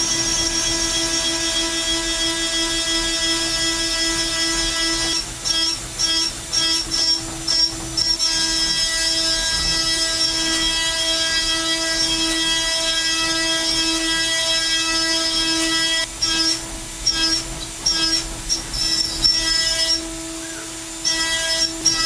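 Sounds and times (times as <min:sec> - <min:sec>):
milling spindle high-pitched whine: 0:00.0 - 0:22.0.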